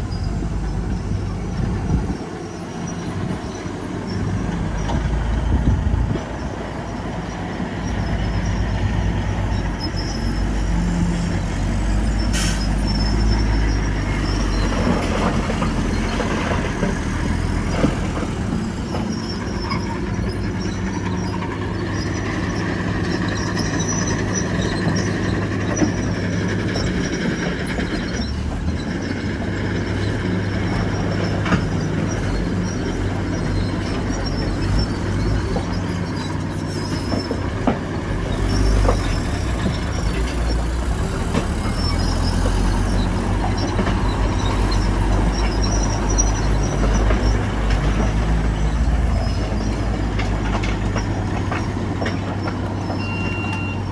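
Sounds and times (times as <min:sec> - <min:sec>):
bulldozer diesel engine droning: 0:00.0 - 0:53.9
steel tracks squealing and clanking: 0:00.0 - 0:53.9.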